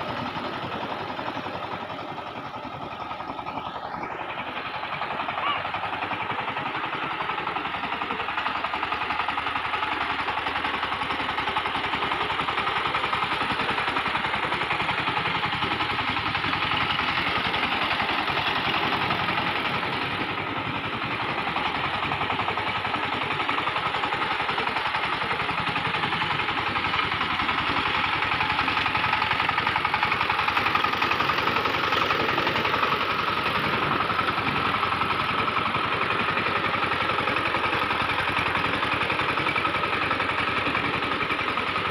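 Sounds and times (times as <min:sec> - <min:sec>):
diesel tiller engine under load: 0:00.0 - 0:41.9.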